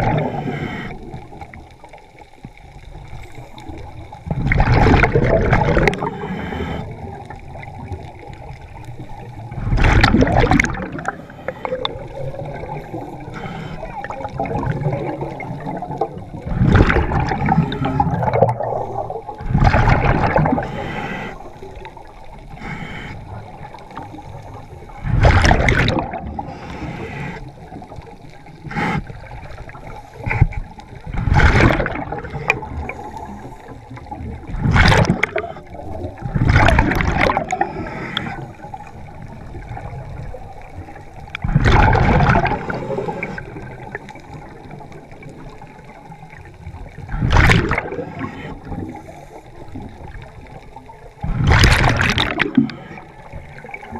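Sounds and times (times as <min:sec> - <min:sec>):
underwater hiss: 0:00.0 - 0:01.9, 0:04.5 - 0:46.2, 0:46.8 - 0:51.8, 0:52.4 - 0:53.9
exhaled bubbles rushing: 0:00.0 - 0:02.0, 0:02.7 - 0:22.5, 0:23.3 - 0:53.9.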